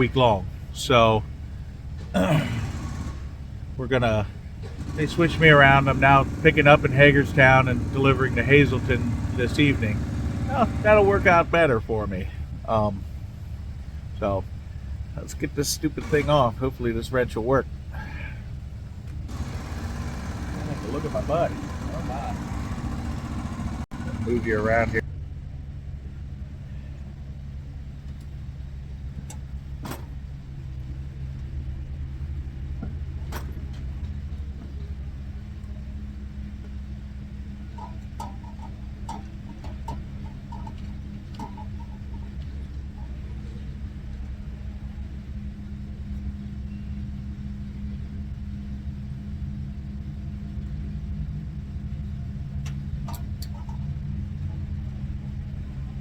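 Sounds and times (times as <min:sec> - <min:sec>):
diesel truck engine idling: 0:00.0 - 0:45.9.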